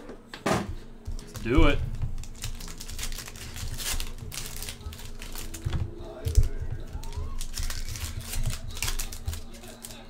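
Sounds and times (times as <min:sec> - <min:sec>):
foil wrapper crinkling and tearing: 0:01.2 - 0:10.0.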